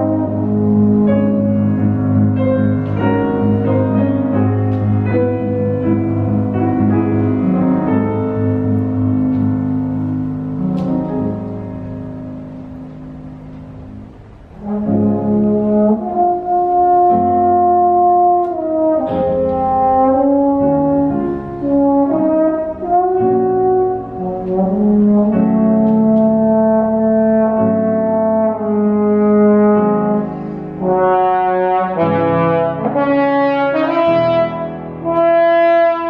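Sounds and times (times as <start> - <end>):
slide trombone melody: 0.0 - 36.0.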